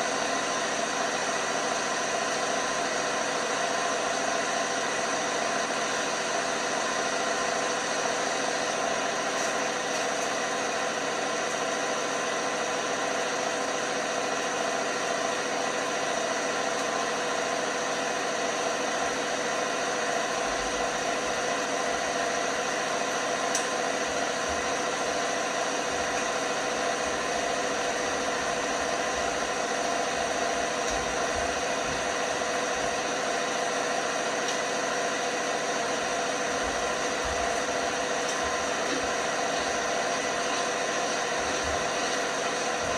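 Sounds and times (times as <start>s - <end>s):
washing machine hum and whir: 0.0s - 42.9s.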